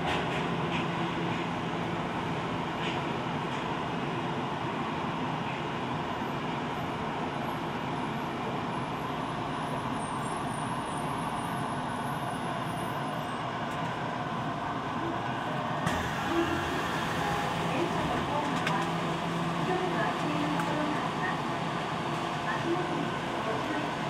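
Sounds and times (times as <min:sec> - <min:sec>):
subway car cabin rush: 0:00.0 - 0:24.0.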